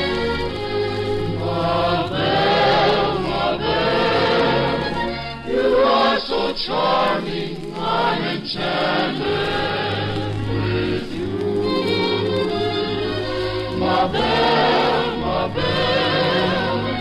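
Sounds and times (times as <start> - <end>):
choir singing: 0.0 - 17.0
orchestral accompaniment: 0.0 - 17.0.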